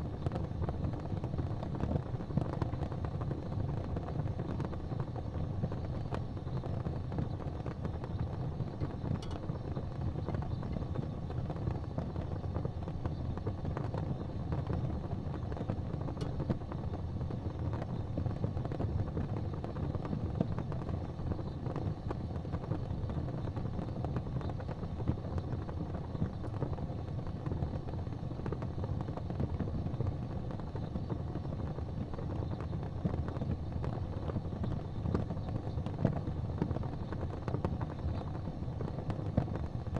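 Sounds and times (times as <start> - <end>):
fire flames rumbling: 0.0 - 39.9
wood fire crackling: 0.0 - 39.9.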